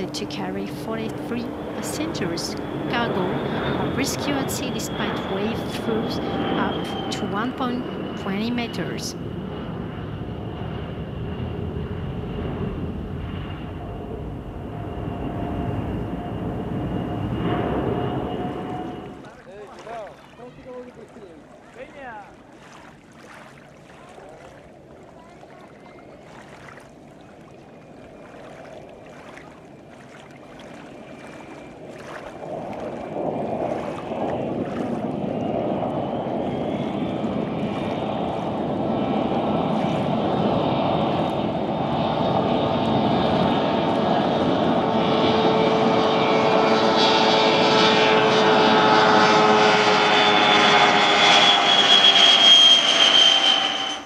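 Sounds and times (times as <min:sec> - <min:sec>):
jet engines rushing with high whine: 0:00.0 - 0:19.4, 0:29.6 - 0:54.0.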